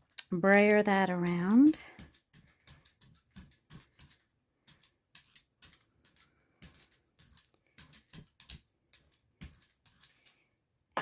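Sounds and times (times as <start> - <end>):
brayer rolling with faint clicks: 0.0 - 10.5.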